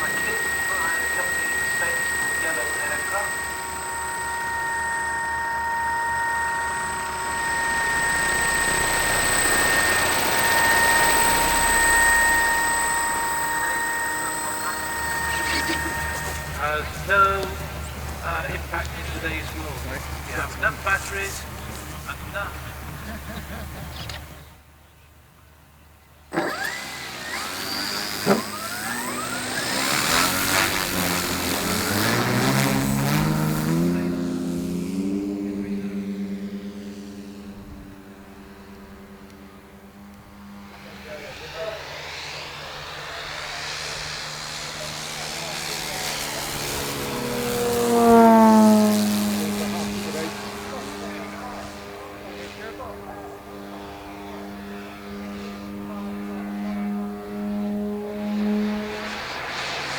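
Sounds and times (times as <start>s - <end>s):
model plane electric motor whine: 0.0s - 24.5s, 26.2s - 59.9s
propeller rush: 0.0s - 59.9s.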